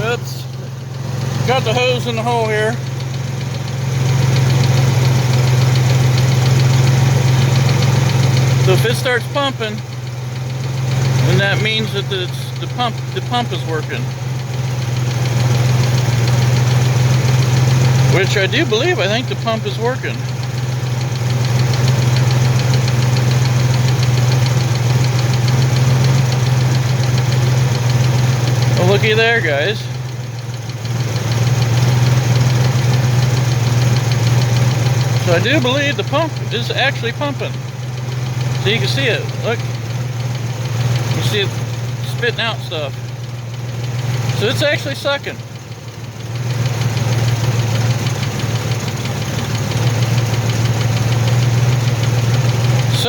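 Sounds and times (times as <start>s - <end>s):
car engine running with ticking: 0.0s - 53.0s.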